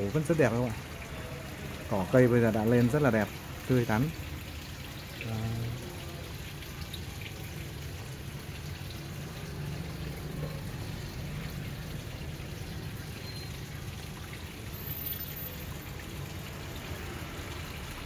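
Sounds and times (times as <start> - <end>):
water trickling into pond: 0.0 - 18.0.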